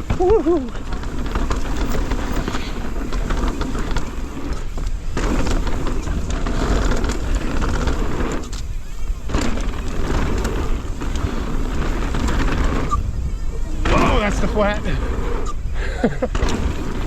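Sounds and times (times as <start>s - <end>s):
bike chain and frame clatter: 0.0s - 17.0s
bike tyres rattling over dirt: 0.0s - 17.0s
wind rumbling on microphone: 0.0s - 17.0s.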